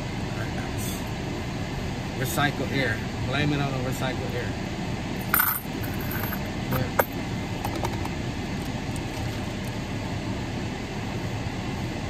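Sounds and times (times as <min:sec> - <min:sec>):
car air conditioning fan blowing: 0:00.0 - 0:12.0.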